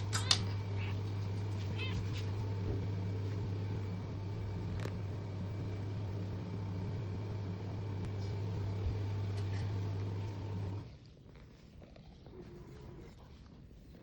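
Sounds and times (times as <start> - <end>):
low machine hum: 0.0 - 11.4.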